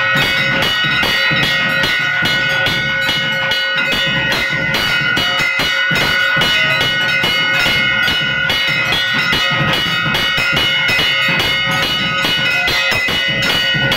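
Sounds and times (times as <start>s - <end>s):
fast steady drumming: 0.0s - 13.9s
metal bells ringing: 0.0s - 13.9s.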